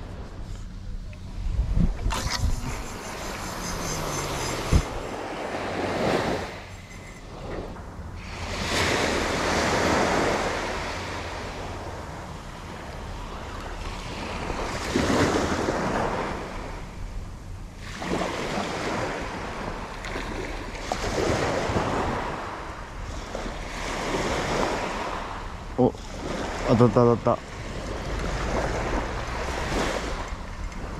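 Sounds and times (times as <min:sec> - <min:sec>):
wind rumble on microphone: 0:00.0 - 0:26.8, 0:27.4 - 0:30.9
small waves breaking on beach: 0:01.3 - 0:16.9, 0:17.8 - 0:30.9.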